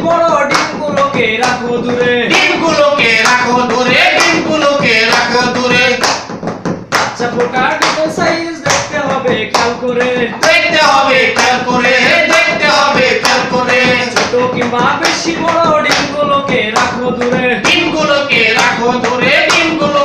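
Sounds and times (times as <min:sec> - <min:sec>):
men singing together: 0:00.0 - 0:06.2, 0:07.0 - 0:20.0
hand claps: 0:00.0 - 0:20.0.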